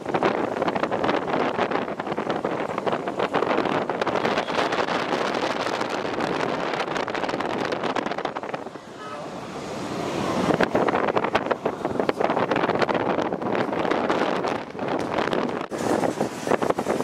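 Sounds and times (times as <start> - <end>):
road noise rushing: 0.0 - 17.0
wind buffeting microphone: 0.0 - 17.0.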